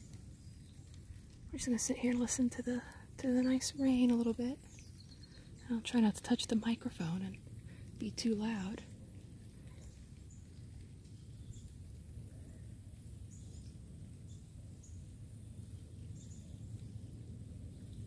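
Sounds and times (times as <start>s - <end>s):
light rain: 0.0s - 18.0s
steady low rumble: 0.0s - 18.0s.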